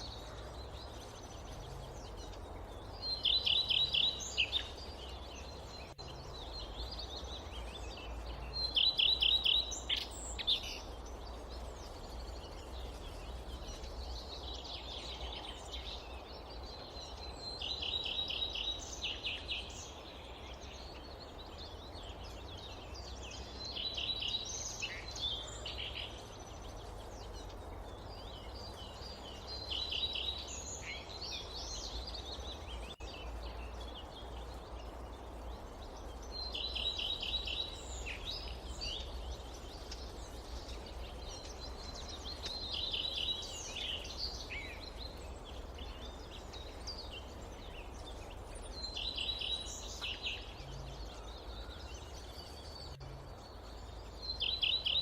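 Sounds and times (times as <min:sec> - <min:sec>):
wind rumble and hiss: 0:00.0 - 0:55.0.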